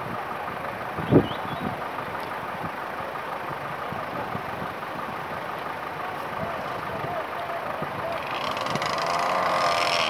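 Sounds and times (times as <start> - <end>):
street noise: 0.0 - 10.0
vehicle engines idling: 0.0 - 10.0.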